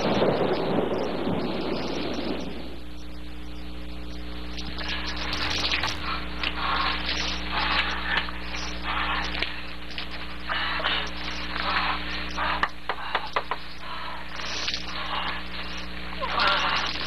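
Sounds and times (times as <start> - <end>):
electrical hum: 0.0 - 17.0
tape hiss: 0.0 - 17.0.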